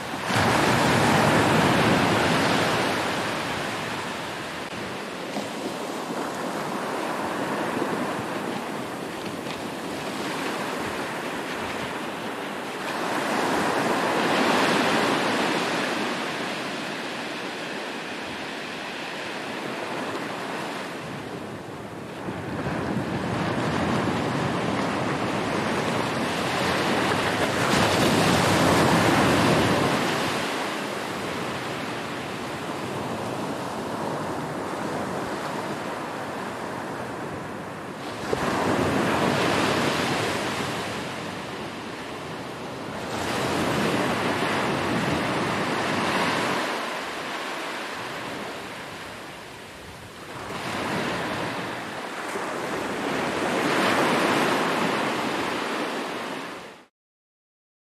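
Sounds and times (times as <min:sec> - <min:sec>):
waves breaking on beach: 0:00.0 - 0:56.9.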